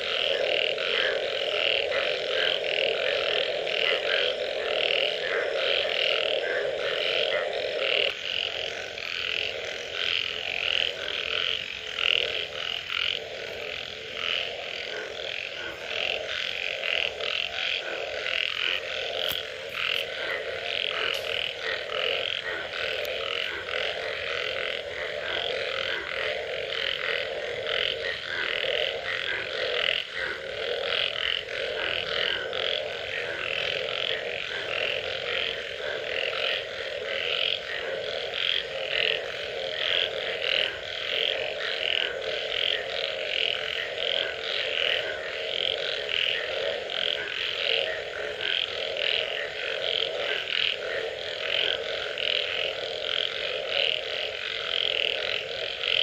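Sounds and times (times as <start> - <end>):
high pulsing frog calls: 0.0 - 56.0
low frog calls: 0.0 - 56.0.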